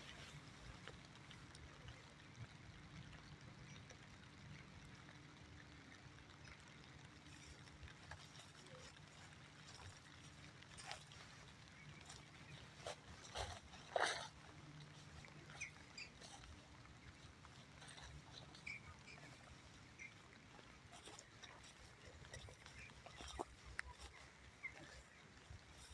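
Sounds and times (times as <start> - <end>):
drip ticks: 0.2 - 25.9.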